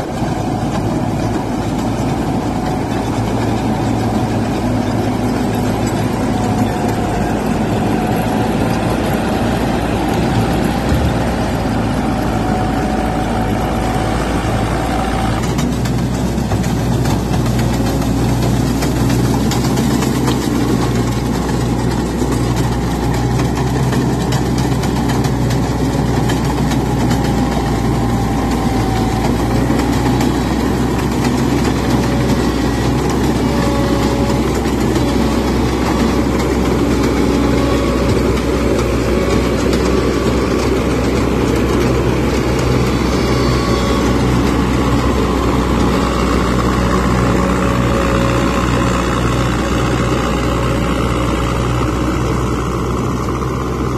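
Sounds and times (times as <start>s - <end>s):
diesel engine hum: 0.0s - 53.9s
threshing machinery whirring: 0.0s - 53.9s.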